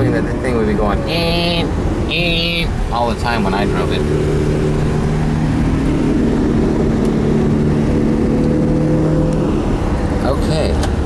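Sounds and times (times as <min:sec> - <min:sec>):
road noise rumble: 0:00.0 - 0:11.0
rotary engine cruising: 0:00.0 - 0:11.0.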